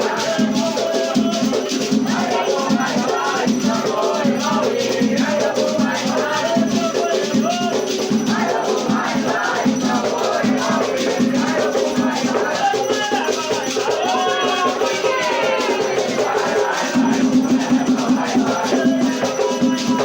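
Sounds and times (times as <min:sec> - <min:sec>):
drums: 0:00.0 - 0:20.0
shaken rattles: 0:00.0 - 0:20.0
voices singing: 0:00.0 - 0:20.0.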